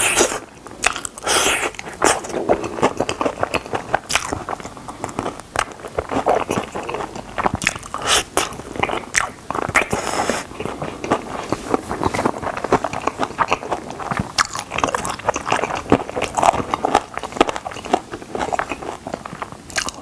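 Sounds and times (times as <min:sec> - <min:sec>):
crunchy chicken biting: 0:00.0 - 0:20.0
wet chewing: 0:00.0 - 0:20.0.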